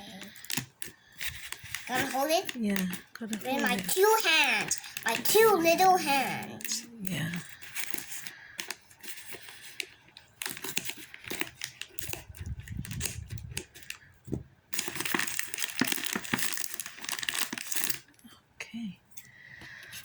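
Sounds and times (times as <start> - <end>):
package wrapping tearing: 0.0 - 14.1, 14.7 - 18.1.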